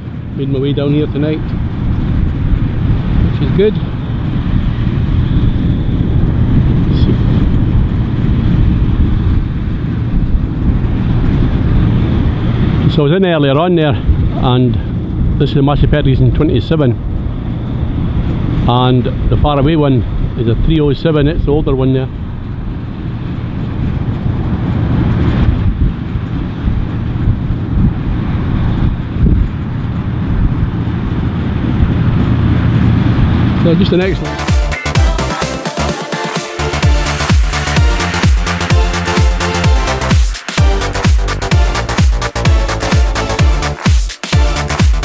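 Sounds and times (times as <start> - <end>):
combine harvesters rumbling: 0.0 - 45.0.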